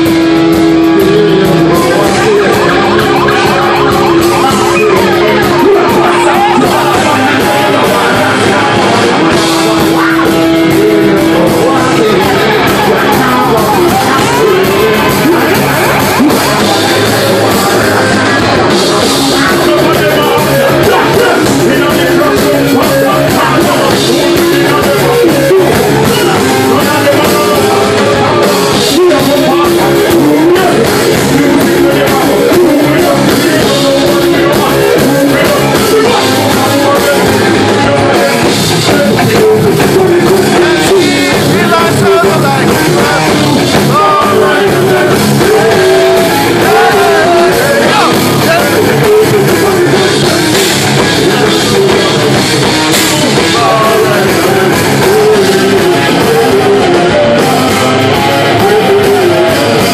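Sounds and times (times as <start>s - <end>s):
drum kit: 0.0s - 59.9s
electric guitar: 0.0s - 59.9s
live reggae band playing: 0.0s - 59.9s
people singing into microphones: 0.0s - 59.9s.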